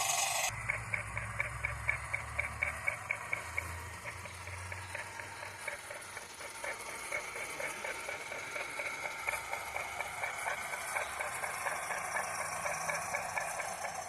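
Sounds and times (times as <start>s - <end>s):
small machine ticking and whining: 0.0s - 14.0s.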